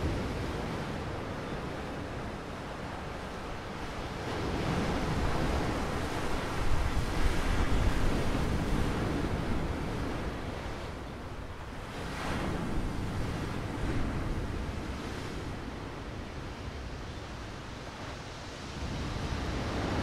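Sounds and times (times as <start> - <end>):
sea waves breaking: 0.0 - 20.0
wind: 0.0 - 20.0.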